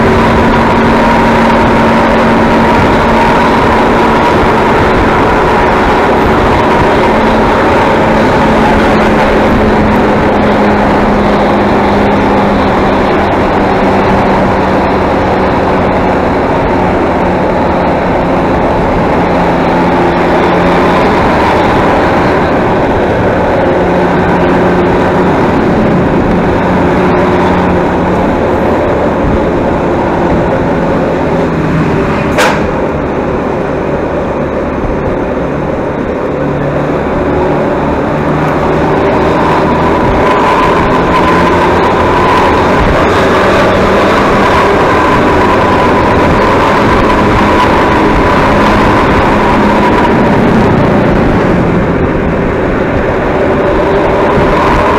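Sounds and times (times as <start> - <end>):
road and wind noise: 0.0 - 54.9
vehicle engine hum: 0.0 - 54.9.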